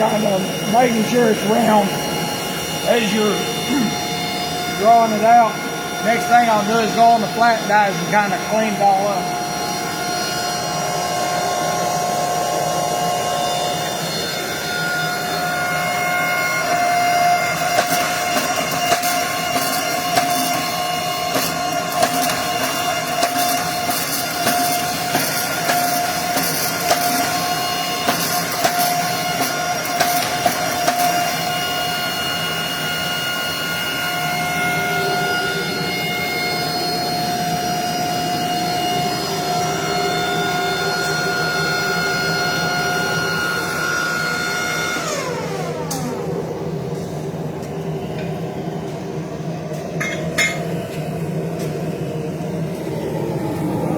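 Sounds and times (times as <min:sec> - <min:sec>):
forging machine humming: 0:00.0 - 0:53.9.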